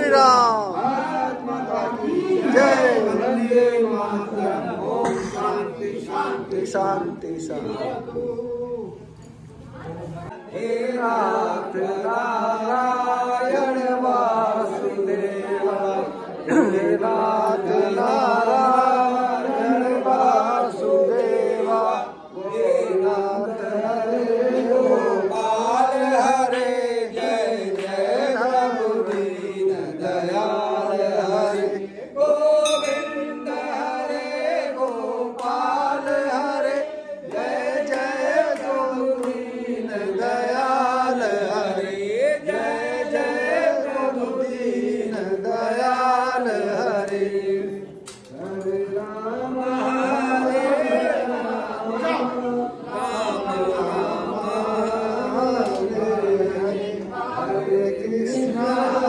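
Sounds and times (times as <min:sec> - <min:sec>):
group of voices chanting: 0:00.0 - 0:09.0, 0:10.3 - 0:59.0.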